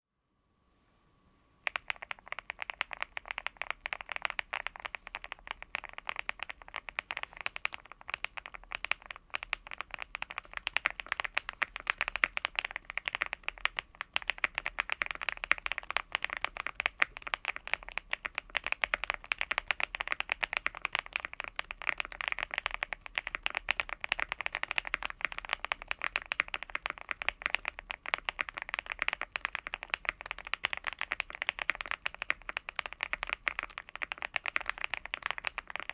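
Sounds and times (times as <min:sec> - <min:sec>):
fast typing on mechanical keyboard: 0:01.7 - 0:35.9.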